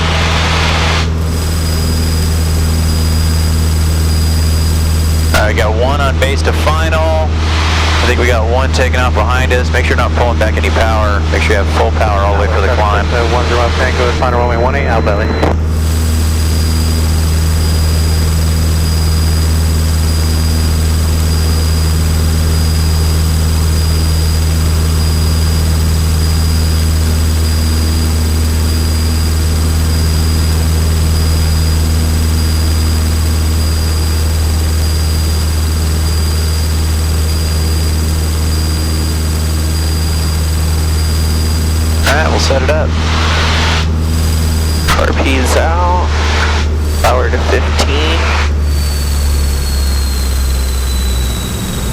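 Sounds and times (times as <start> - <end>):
faint high whine: 0.0 - 51.9
propeller plane engine droning: 0.0 - 51.9.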